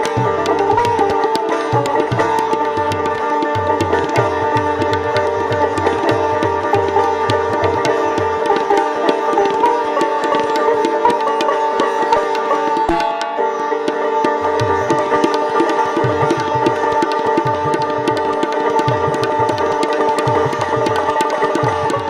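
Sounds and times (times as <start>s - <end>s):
sitar strokes over drone strings: 0.0s - 21.9s
tabla beats: 0.0s - 22.0s.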